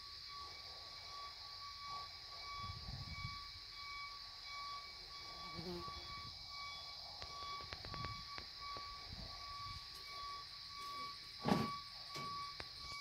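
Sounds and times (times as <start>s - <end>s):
faint beeping tone: 0.0s - 13.0s
high-pitched hiss: 0.0s - 13.0s.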